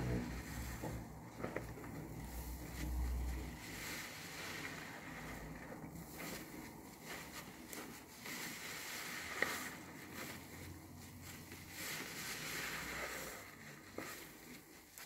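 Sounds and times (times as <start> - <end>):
wet sponge squishing: 0.0 - 15.0.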